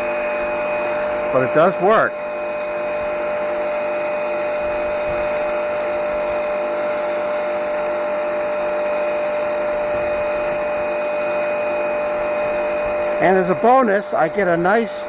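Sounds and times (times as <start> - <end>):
pressure washer whine: 0.0 - 15.0.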